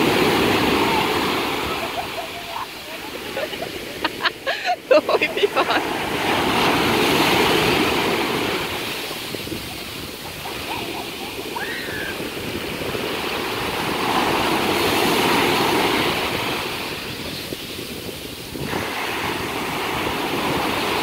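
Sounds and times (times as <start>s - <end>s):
surf breaking on shore: 0.0s - 21.0s.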